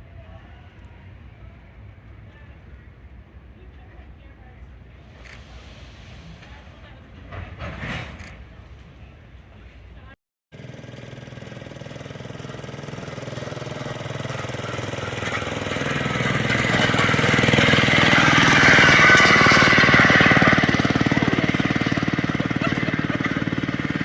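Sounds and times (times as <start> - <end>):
rail motorcar engine chattering: 0.1 - 10.2, 10.8 - 24.0.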